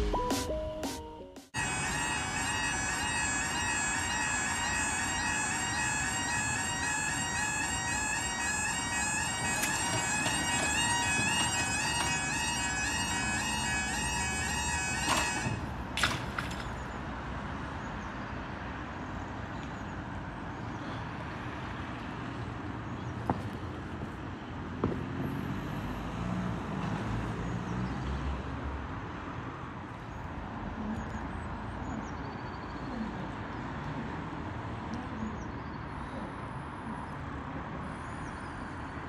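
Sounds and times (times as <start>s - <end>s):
road traffic noise: 1.4s - 39.0s.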